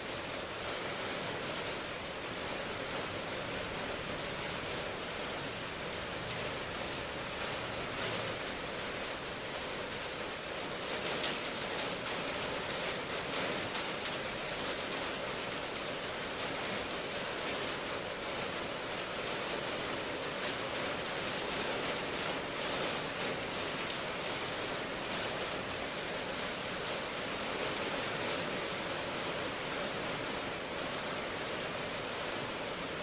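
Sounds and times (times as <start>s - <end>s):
patter of raindrops: 0.0s - 33.0s.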